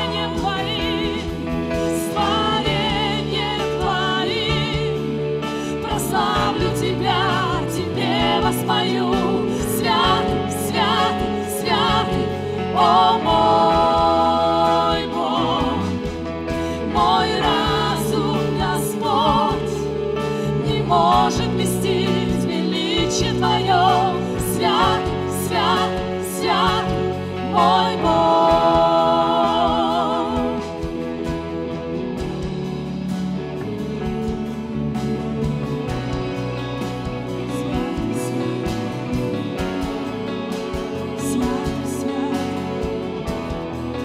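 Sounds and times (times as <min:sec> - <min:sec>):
women singing slow song: 0:00.0 - 0:31.2, 0:37.4 - 0:40.0, 0:40.9 - 0:43.4
bass: 0:00.0 - 0:44.0
keyboards: 0:00.0 - 0:44.0.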